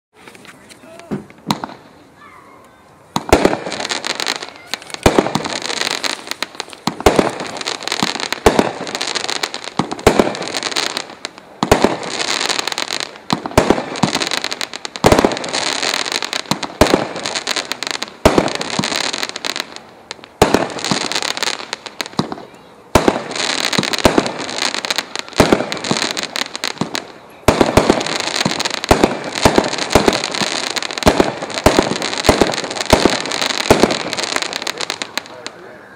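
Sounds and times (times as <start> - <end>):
fireworks launching and bursting: 0.2 - 2.2, 3.1 - 35.9
fireworks crackling: 0.2 - 35.9.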